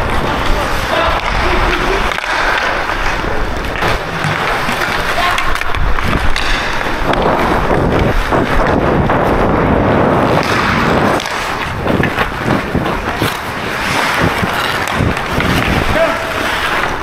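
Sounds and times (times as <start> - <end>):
skate blades scraping ice: 0.0 - 17.0
wind buffeting microphone: 2.7 - 17.0.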